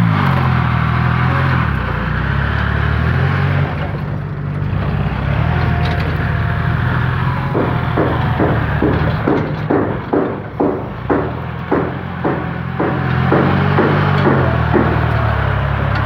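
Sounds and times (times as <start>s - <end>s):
tractor diesel engine: 0.0s - 16.0s.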